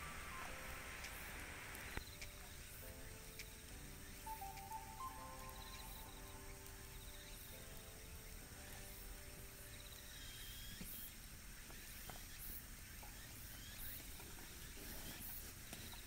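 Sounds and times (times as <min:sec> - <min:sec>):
wood fire crackling: 0:00.0 - 0:12.9
insects chirping in trills: 0:00.0 - 0:16.0.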